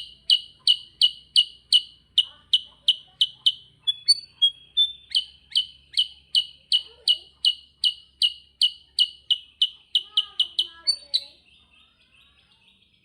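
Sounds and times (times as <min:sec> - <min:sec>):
bird whistled notes: 0:00.0 - 0:11.4
bird chirping: 0:00.0 - 0:13.0.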